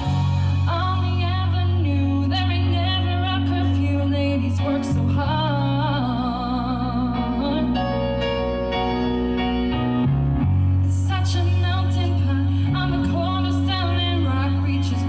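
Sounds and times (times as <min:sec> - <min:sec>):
woman singing with vibrato: 0:00.0 - 0:08.2, 0:10.8 - 0:15.0
bass and keyboard backing track: 0:00.0 - 0:15.0.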